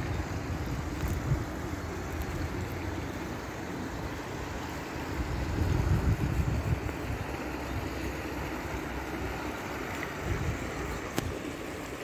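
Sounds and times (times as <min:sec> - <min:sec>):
wind buffeting microphone: 0:00.0 - 0:04.2, 0:04.8 - 0:11.7
creek running over stones: 0:00.0 - 0:12.0.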